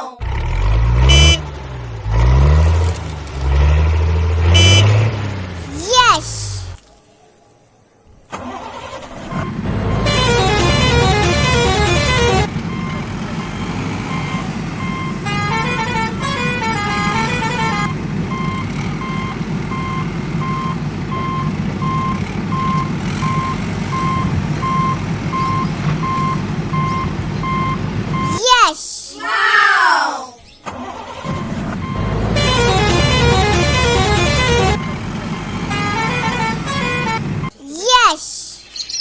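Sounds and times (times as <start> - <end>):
vehicle engine rumbling: 0.2 - 28.4, 30.4 - 37.6.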